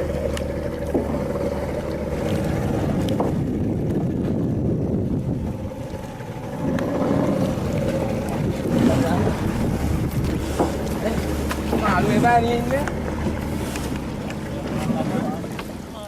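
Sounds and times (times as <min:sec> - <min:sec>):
wind buffeting microphone: 0:00.0 - 0:15.9
boat engine droning: 0:00.0 - 0:16.0.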